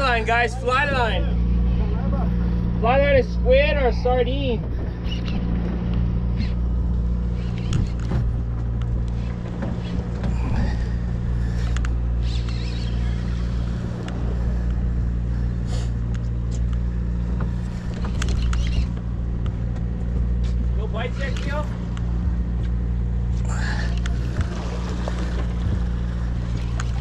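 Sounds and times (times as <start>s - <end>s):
boat engine drone: 0.0s - 27.0s.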